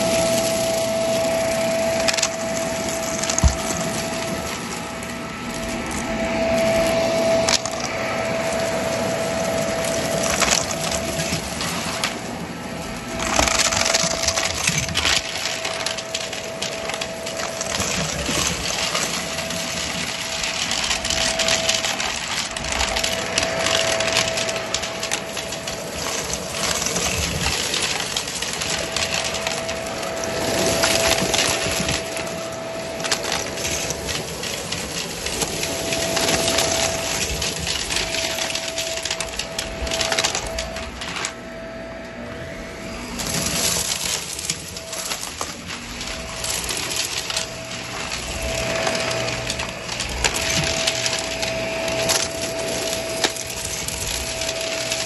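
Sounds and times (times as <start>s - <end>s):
debris crackling into vacuum: 0.0s - 55.0s
vacuum cleaner whining: 0.0s - 55.0s.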